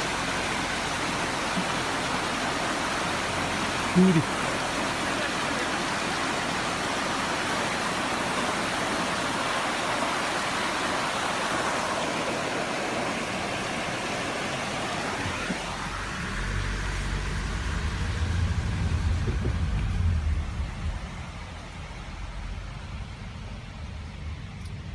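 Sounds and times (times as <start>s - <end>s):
car engine and road rumble: 0.0s - 24.9s
mountain stream rushing: 0.0s - 24.9s.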